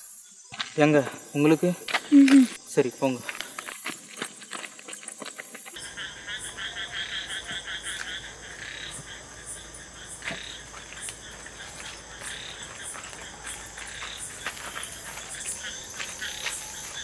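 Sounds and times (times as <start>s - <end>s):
frogs croaking: 0.0s - 17.0s
insects chirping: 0.0s - 17.0s.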